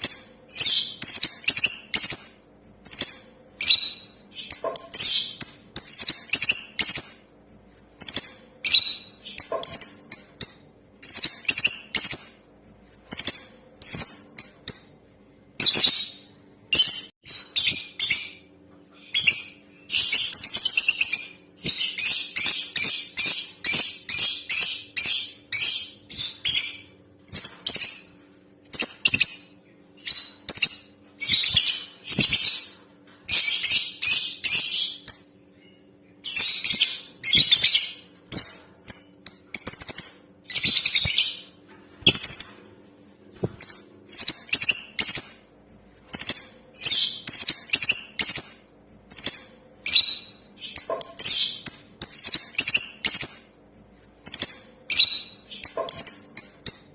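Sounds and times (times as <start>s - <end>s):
lovebird chirping and chattering: 0.0s - 7.4s, 8.0s - 12.5s, 13.1s - 42.8s, 43.6s - 53.6s, 54.2s - 56.9s.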